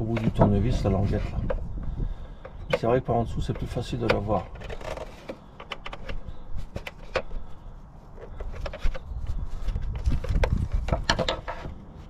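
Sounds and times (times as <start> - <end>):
low rumbling handling noise: 0.0 - 12.0.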